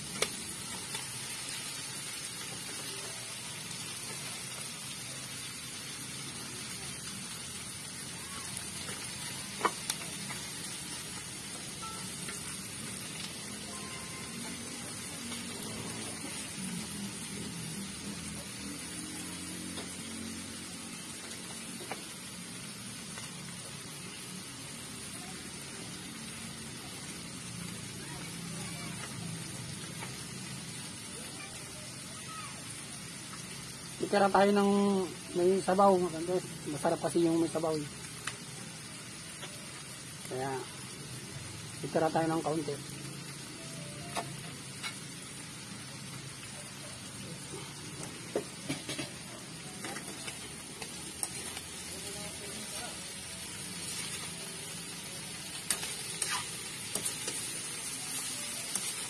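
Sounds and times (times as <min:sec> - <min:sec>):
chicken hissing on a stove: 0:00.0 - 0:11.8, 0:12.4 - 0:59.0
broth simmering in a pot: 0:00.0 - 0:59.0.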